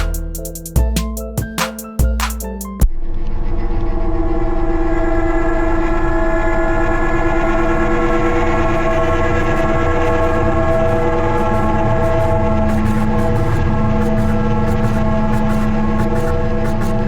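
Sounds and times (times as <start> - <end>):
low rumble: 2.8 - 16.6.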